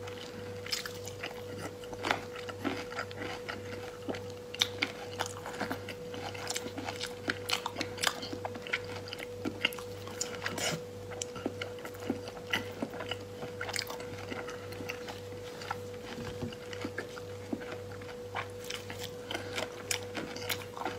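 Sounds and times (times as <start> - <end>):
faint electrical hum: 0.0 - 20.9
wet chewing and mouth sounds: 0.1 - 20.9.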